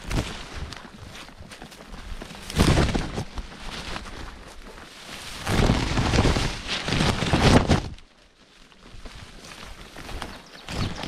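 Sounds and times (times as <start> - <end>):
rumbling rustling on microphone: 0.0 - 11.0.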